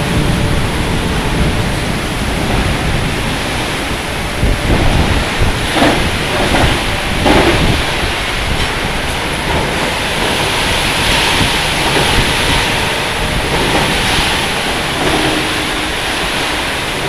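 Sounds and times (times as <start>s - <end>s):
pouring rain: 0.0s - 17.0s
wind: 0.0s - 17.0s.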